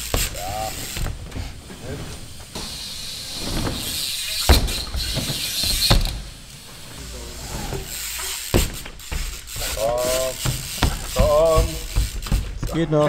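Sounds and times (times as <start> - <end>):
bike freewheel ticking: 0.0 - 13.0
bike knocking on wood: 0.0 - 13.0
tyres hissing: 0.0 - 13.0.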